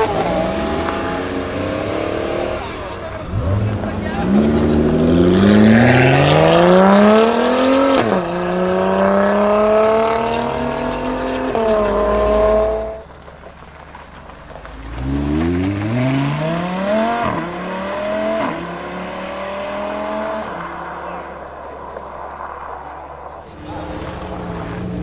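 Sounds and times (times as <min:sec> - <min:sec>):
car engines accelerating hard: 0:00.0 - 0:25.0.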